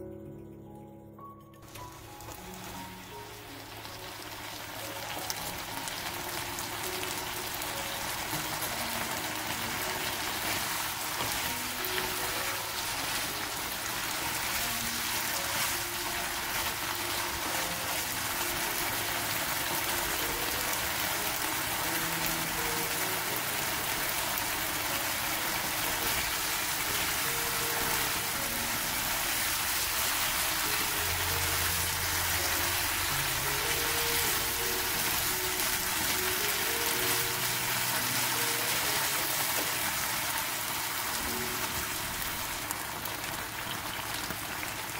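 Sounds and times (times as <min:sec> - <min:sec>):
soft background music: 0:00.0 - 0:44.9
sauce sizzling in a wok: 0:01.7 - 0:44.9.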